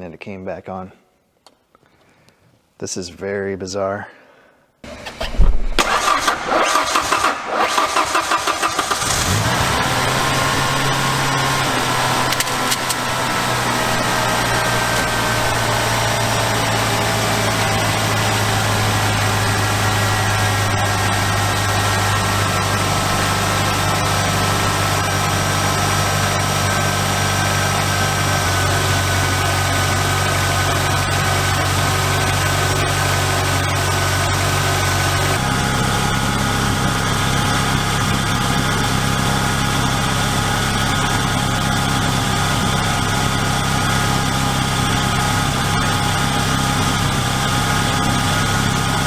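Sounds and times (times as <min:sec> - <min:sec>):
car engine idling: 0:04.9 - 0:49.0.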